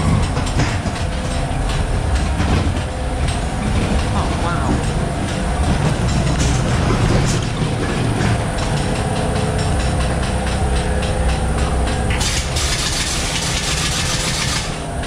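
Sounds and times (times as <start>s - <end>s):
ride car rumbling and rattling: 0.0s - 15.0s.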